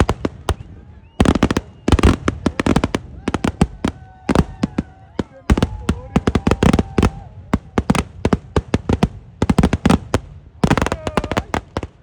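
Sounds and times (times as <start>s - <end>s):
firework bangs in rapid clusters: 0.0s - 12.0s.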